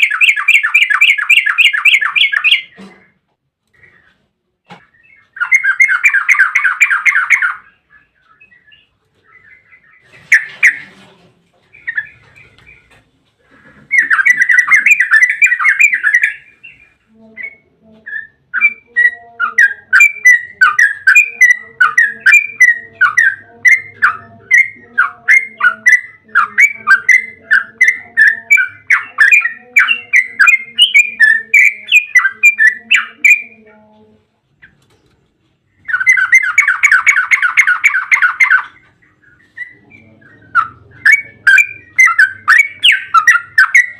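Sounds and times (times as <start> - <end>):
bird singing bubbly phrases: 0.0 - 2.8, 4.9 - 10.9, 13.9 - 33.7, 35.7 - 43.9
bird chattering notes: 5.0 - 11.0, 11.7 - 33.7, 34.6 - 43.9.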